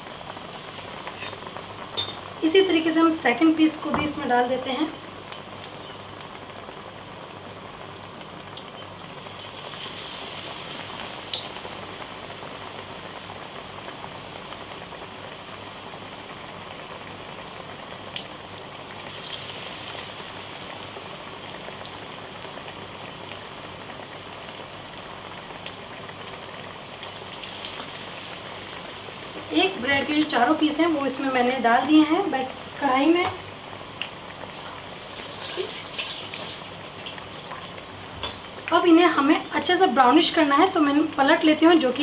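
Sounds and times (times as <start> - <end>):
deep-frying crackling sizzle: 0.0 - 42.0.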